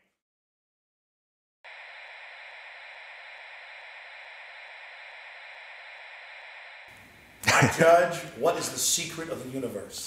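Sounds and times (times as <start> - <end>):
steady static hiss: 1.7 - 10.0.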